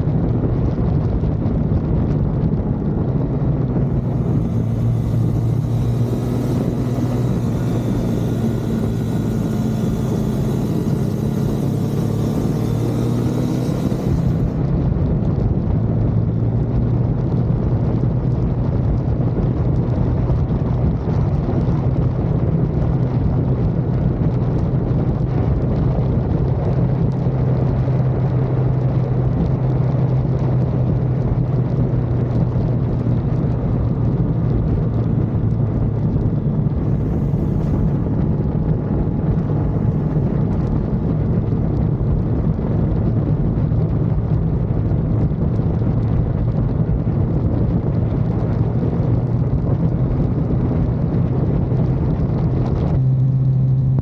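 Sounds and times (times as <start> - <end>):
car engine drone: 0.0 - 54.0
wind noise: 0.0 - 54.0.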